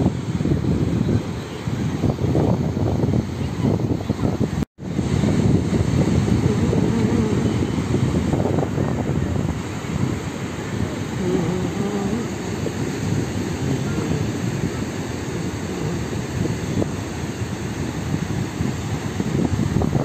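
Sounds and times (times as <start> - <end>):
surf breaking on beach: 0.0 - 20.0
wind on microphone: 0.0 - 20.0.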